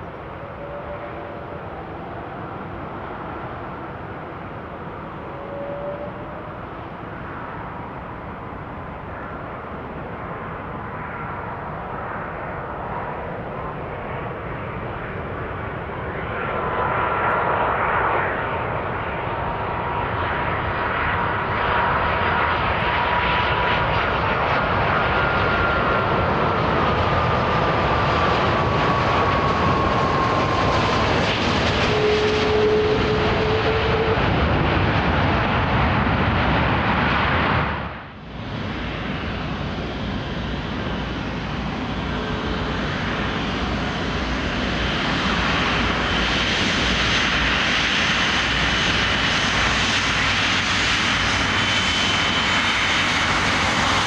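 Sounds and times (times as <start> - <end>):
jet engines roaring and whining: 0.0 - 54.0.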